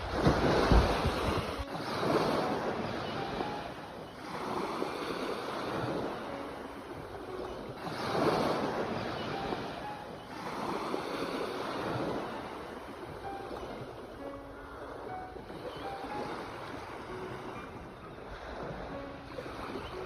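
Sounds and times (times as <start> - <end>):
sea waves washing in: 0.0 - 20.0.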